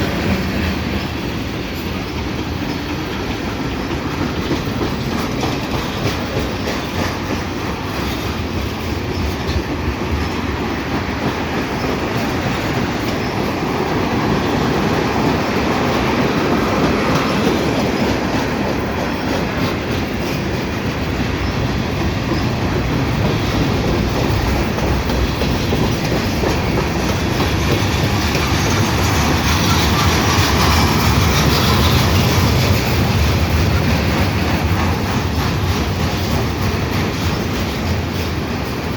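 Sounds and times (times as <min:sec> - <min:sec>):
freight train wheels rumbling and clicking: 0:00.0 - 0:38.9.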